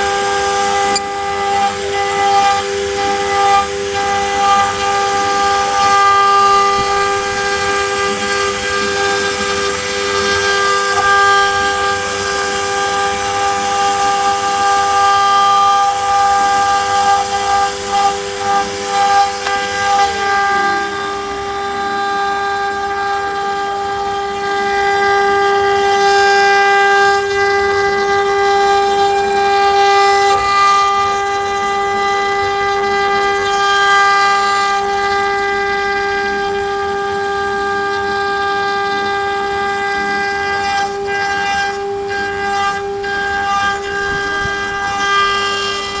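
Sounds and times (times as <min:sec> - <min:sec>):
router spindle whine: 0:00.0 - 0:46.0.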